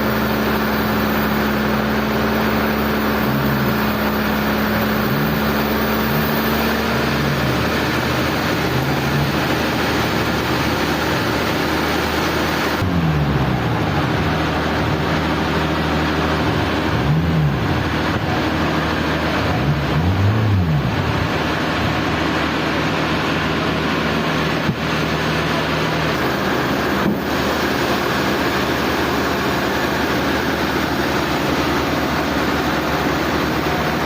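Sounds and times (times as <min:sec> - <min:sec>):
sawmill machinery roaring: 0:00.0 - 0:34.0.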